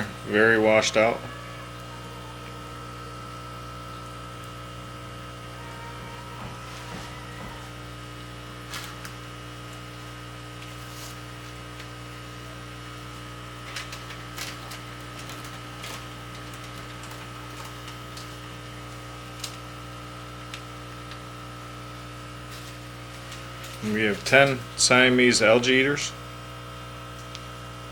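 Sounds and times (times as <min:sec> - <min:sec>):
electrical equipment hum: 0:00.0 - 0:27.9.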